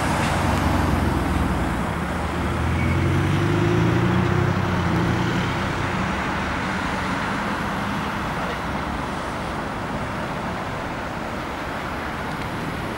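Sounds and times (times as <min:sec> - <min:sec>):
heavy vehicle engine hum: 0:00.0 - 0:12.9
tyre and traffic noise: 0:00.0 - 0:12.9.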